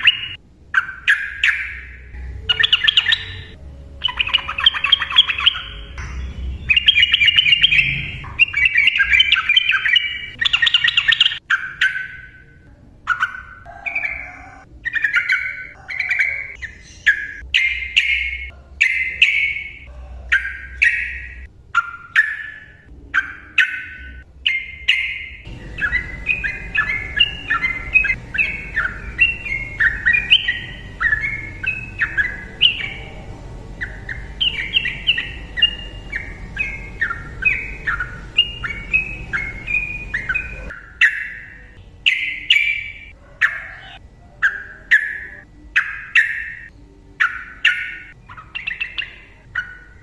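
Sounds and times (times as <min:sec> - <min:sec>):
bulbul singing whistled phrases: 0:00.0 - 0:50.0.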